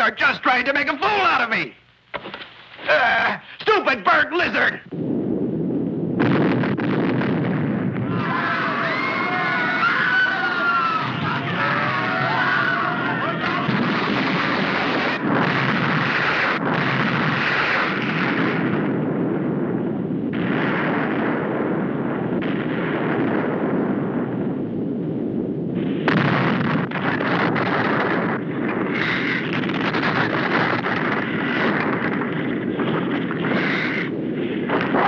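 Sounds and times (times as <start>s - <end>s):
rumbling and blasting explosions: 4.1s - 35.0s.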